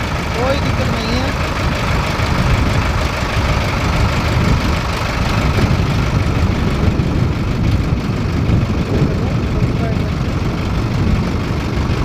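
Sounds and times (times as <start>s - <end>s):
tractor diesel engine rumbling: 0.0s - 12.0s.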